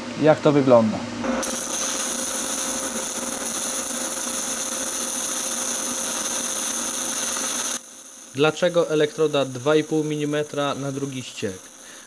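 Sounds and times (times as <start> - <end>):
welding arc hissing: 1.2 - 12.0.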